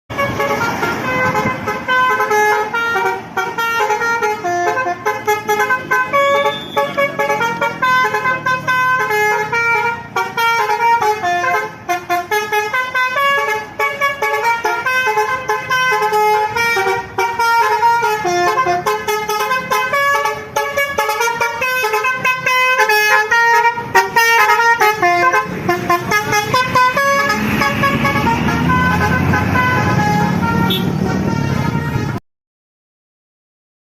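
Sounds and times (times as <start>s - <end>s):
musical bus horn playing a tune: 0.1s - 32.2s.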